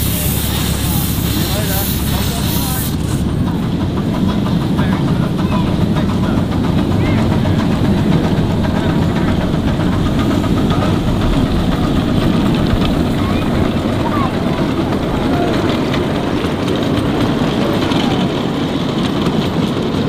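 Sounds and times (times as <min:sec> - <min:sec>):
miniature steam locomotive running: 0:00.0 - 0:20.0
wheels on rails: 0:00.0 - 0:20.0.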